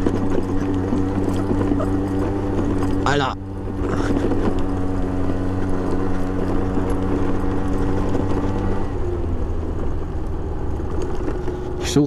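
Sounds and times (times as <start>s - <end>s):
scooter two-stroke engine running: 0.0s - 12.0s.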